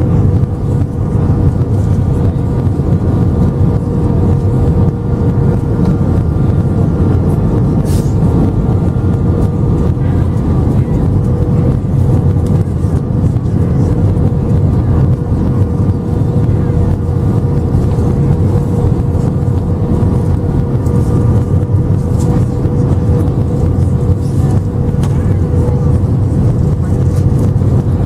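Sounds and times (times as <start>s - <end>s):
aircraft cabin engine rumble: 0.0s - 28.0s
steady engine whine: 0.0s - 28.0s.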